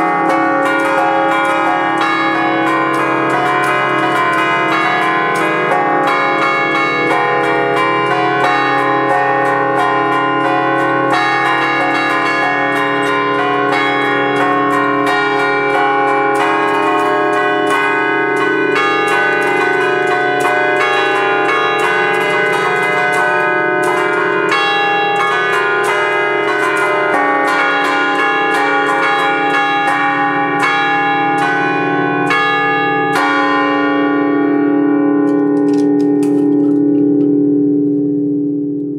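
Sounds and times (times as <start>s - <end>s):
church bells ringing melody: 0.0s - 38.9s.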